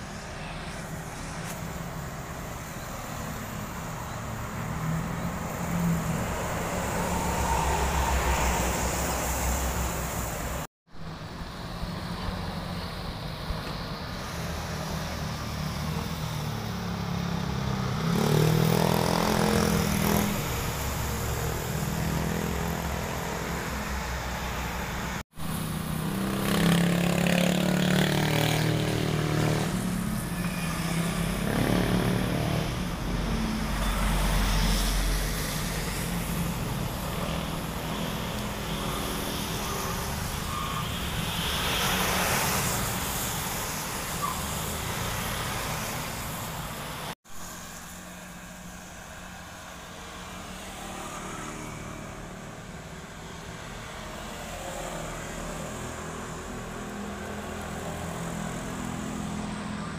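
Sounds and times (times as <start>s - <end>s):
vehicles driving by: 0.0s - 59.9s.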